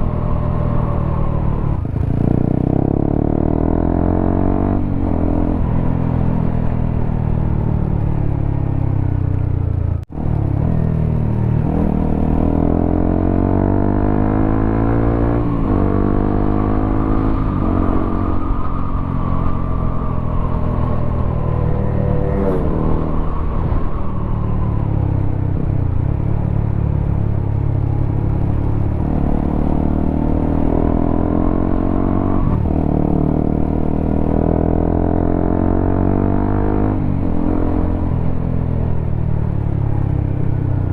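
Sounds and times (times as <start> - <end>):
motorcycle engine revving: 0.0 - 8.4, 10.1 - 24.3, 28.0 - 38.6.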